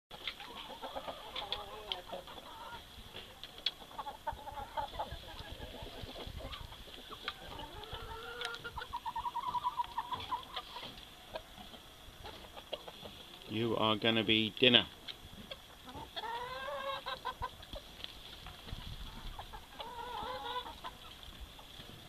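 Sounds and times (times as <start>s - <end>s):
hens and roosters clucking: 0.1s - 22.0s.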